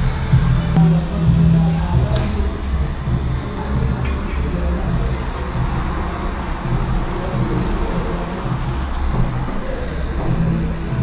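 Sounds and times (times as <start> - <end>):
tattoo machine buzzing: 0.0 - 11.0.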